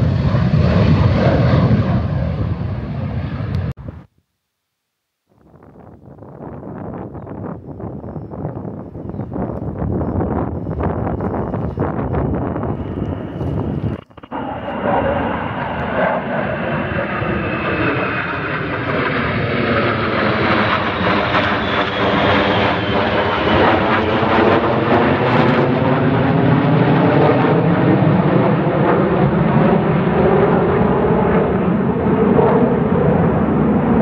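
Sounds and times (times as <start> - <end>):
fighter jets flying over: 0.0 - 4.1, 5.6 - 34.0.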